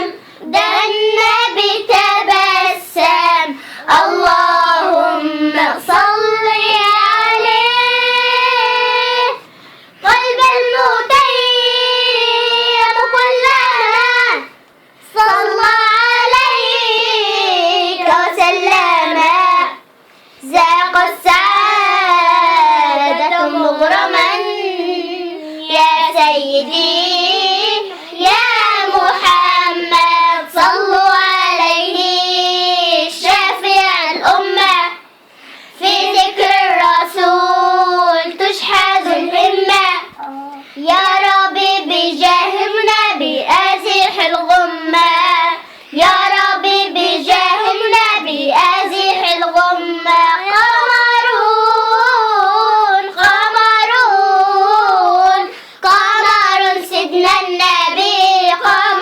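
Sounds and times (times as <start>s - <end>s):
girl singing unaccompanied: 0.0s - 59.0s.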